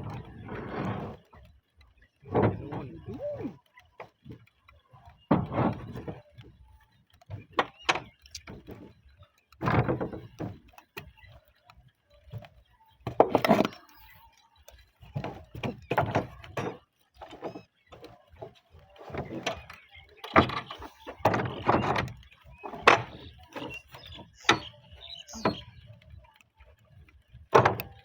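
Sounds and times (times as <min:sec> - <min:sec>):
roof tiles knocking and thudding: 0:00.0 - 0:11.6, 0:12.2 - 0:14.0, 0:14.7 - 0:26.2, 0:27.0 - 0:28.0.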